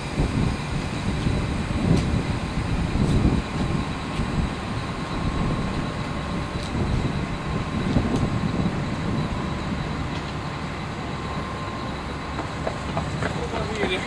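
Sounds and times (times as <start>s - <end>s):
thin constant whine: 0.0s - 14.0s
train low rumble: 0.0s - 14.0s.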